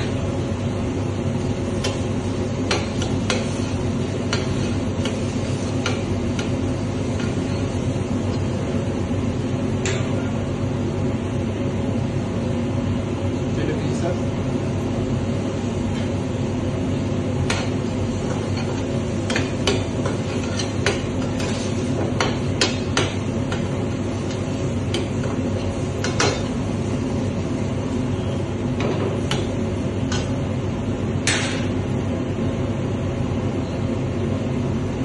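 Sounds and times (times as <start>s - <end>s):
gas range drone: 0.0s - 35.0s.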